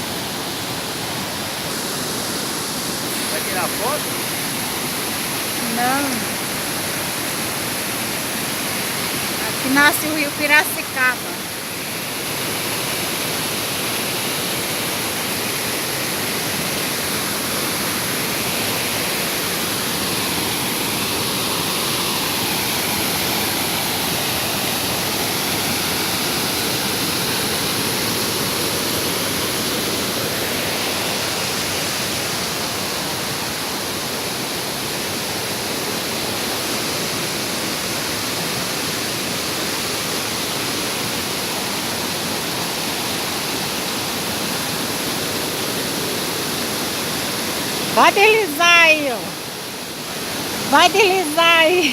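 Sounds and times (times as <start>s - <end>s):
waterfall roaring: 0.0s - 51.9s.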